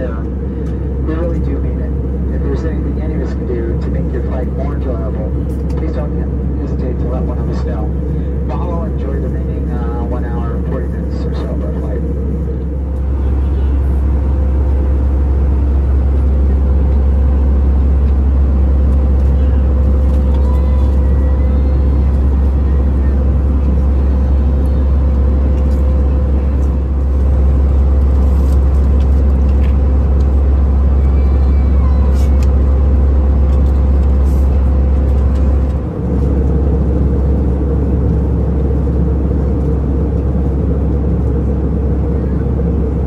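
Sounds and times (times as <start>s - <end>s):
aircraft cabin engine rumble: 0.0s - 43.0s.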